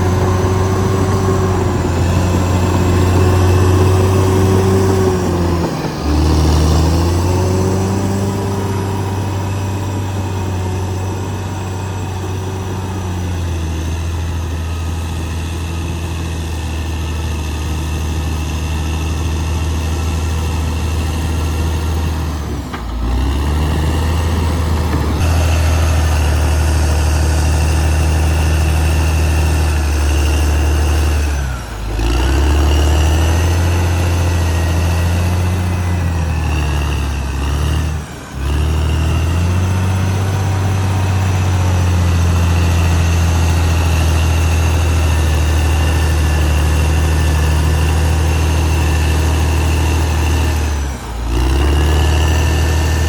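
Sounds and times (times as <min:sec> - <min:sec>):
bulldozer diesel engine running: 0:00.0 - 0:53.0
faint engine whine: 0:00.0 - 0:53.0.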